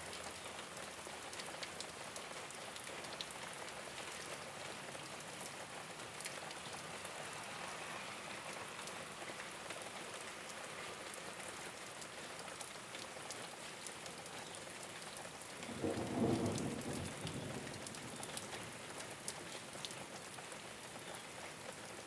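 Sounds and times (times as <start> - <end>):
rain on a rooftop: 0.0 - 22.0.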